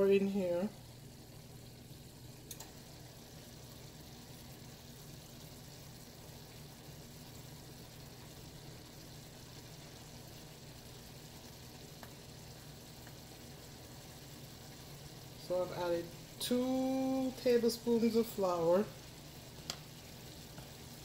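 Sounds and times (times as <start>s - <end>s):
low steady hum: 0.0s - 21.0s
curry simmering in pot: 0.1s - 21.0s.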